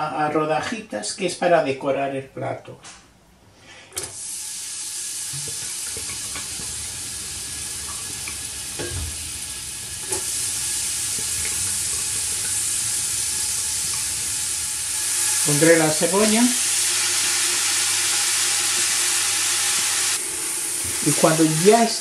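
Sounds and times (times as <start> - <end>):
celery sizzling in hot oil: 4.1 - 22.0.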